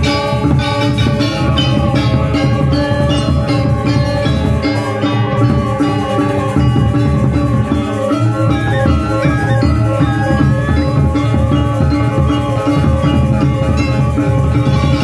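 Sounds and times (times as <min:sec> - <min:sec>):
drumming: 0:00.0 - 0:15.0
metallophones ringing: 0:00.0 - 0:15.0.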